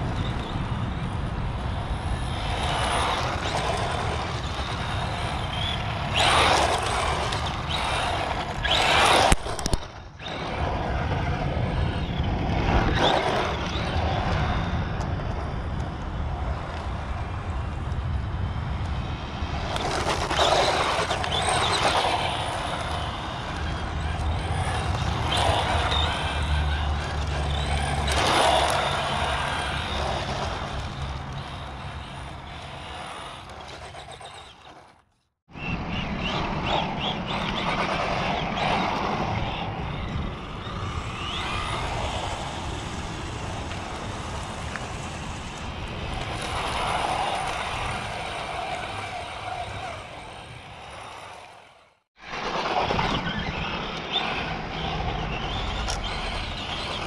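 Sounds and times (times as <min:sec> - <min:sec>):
rc car motor and tyres hissing: 0:00.0 - 0:57.0.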